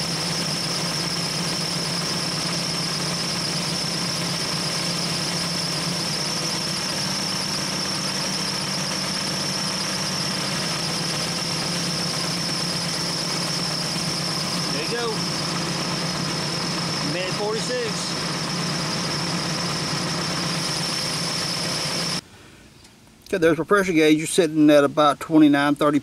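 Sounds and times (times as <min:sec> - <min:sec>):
compressed air whistling into tyre: 0:00.0 - 0:22.2
engine running: 0:00.0 - 0:22.2.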